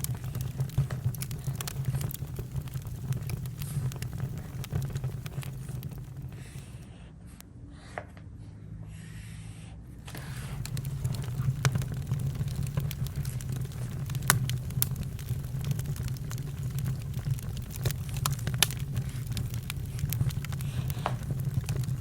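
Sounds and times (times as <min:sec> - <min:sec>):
campfire crackling and popping: 0:00.0 - 0:06.8, 0:10.0 - 0:22.0
low fire rumble: 0:00.0 - 0:07.0, 0:09.9 - 0:22.0.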